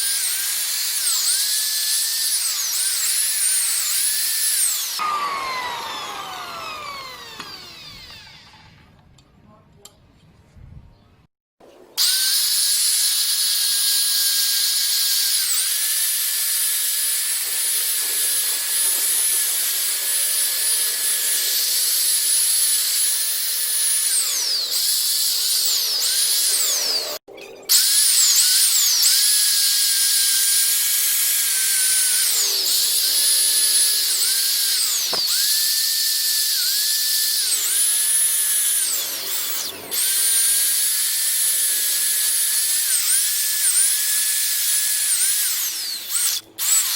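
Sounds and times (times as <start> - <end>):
power tool motor whining: 0.0 - 9.0, 12.0 - 46.9.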